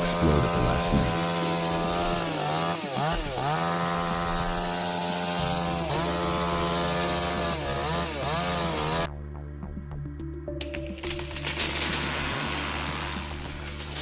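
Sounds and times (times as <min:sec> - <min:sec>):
chainsaw cutting wood: 0:00.0 - 0:09.1, 0:11.0 - 0:14.0.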